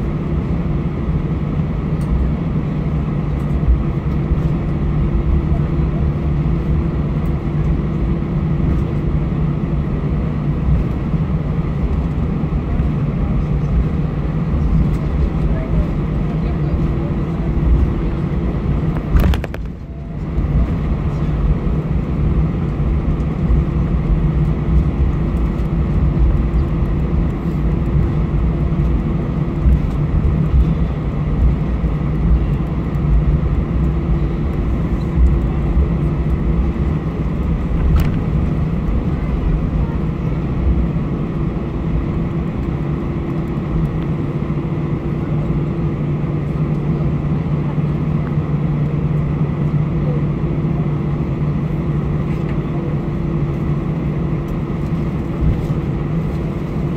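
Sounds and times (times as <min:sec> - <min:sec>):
jet engines humming: 0:00.0 - 0:56.9.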